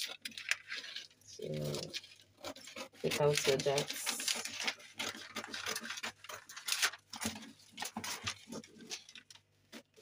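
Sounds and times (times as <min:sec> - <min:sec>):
scissors snipping paper: 0:00.0 - 0:09.3
paper rustling: 0:00.0 - 0:10.0.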